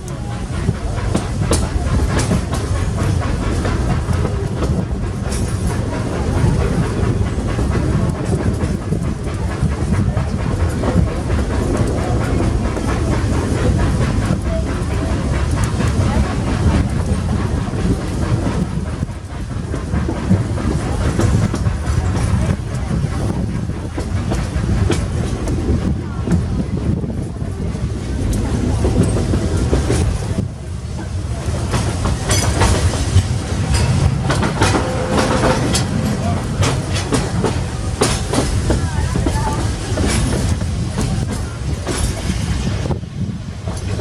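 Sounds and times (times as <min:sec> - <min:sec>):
train rumbling: 0:00.0 - 0:44.0
wheels clacking over rail joints: 0:00.0 - 0:44.0.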